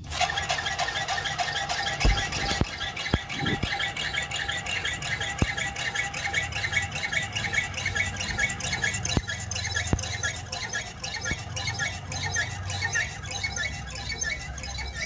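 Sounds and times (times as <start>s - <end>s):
wheel hub squeaking rapidly: 0.0s - 15.0s.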